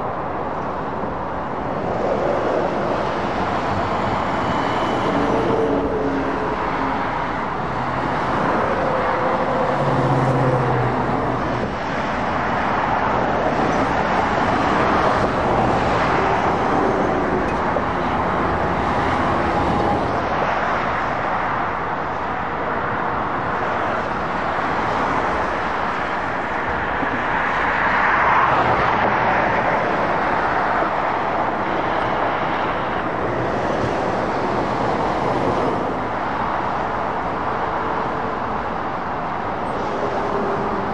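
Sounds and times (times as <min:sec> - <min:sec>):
traffic road noise: 0:00.0 - 0:40.9.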